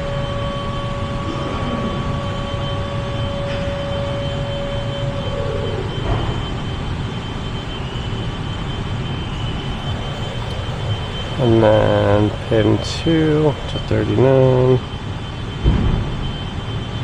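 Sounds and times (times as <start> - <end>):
humming tone: 0.0 - 17.0
rushing noise: 0.0 - 17.0
steady machine hum: 0.0 - 17.0.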